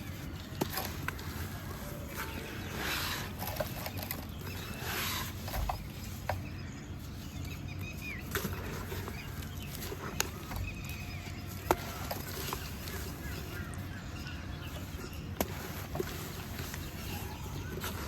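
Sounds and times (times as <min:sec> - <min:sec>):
bird calls: 0:00.0 - 0:18.0.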